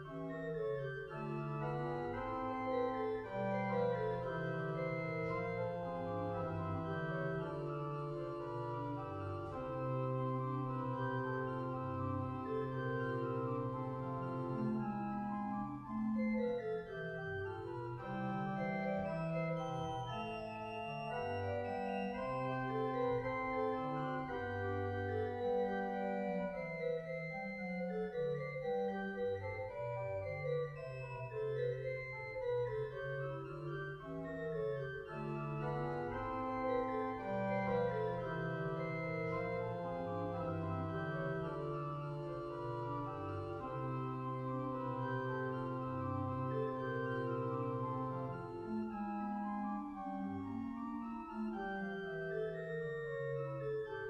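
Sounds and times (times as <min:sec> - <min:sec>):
organ playing sustained chords: 0:00.0 - 0:54.0.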